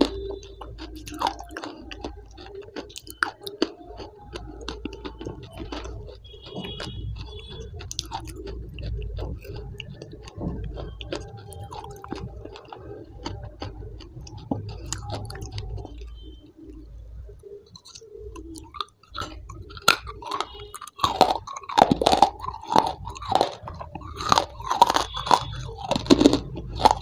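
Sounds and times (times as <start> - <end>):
person eating wet sticky paste: 0.0 - 27.0.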